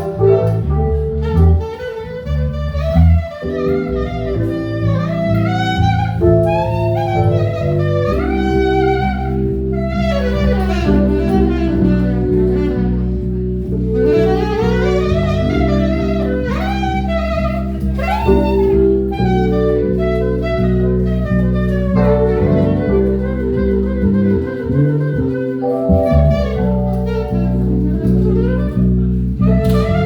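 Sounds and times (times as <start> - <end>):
instrumental jazz music: 0.0 - 30.0.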